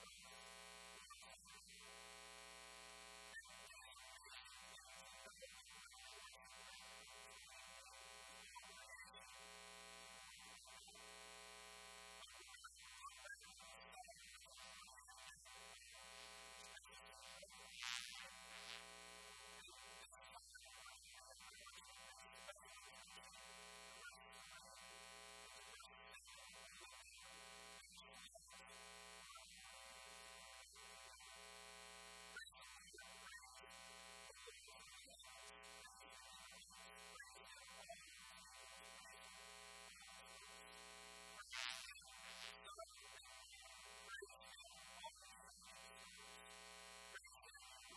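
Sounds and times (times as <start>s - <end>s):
mains hum: 0.0s - 47.9s.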